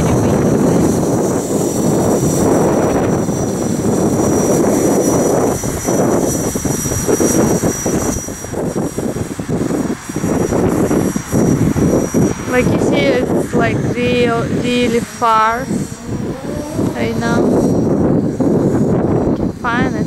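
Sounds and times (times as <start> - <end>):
distant rc helicopter whine: 0.0 - 20.0
wind buffeting microphone: 0.0 - 20.0.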